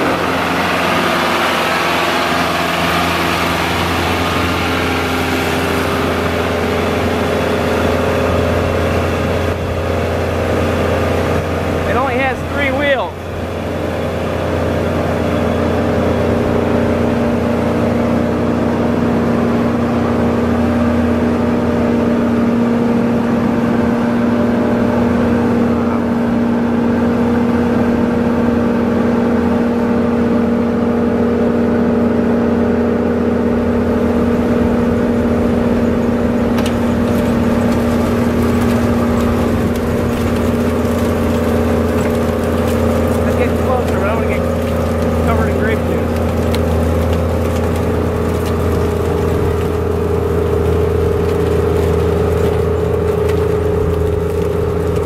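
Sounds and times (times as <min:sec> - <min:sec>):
harvester engine drone: 0:00.0 - 0:55.0.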